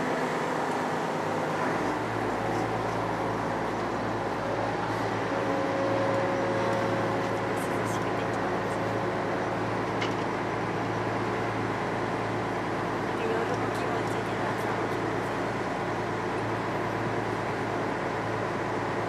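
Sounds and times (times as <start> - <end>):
boat engine humming: 0.0 - 19.0
thin steady whine: 0.0 - 19.0.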